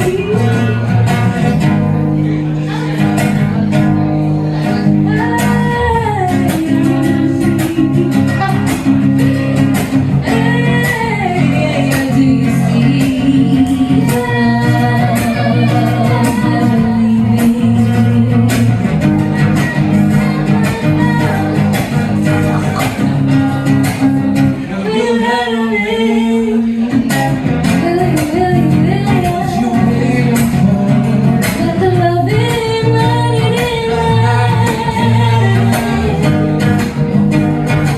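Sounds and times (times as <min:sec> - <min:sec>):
lead guitar: 0:00.0 - 0:37.9
live band playing: 0:00.0 - 0:37.9.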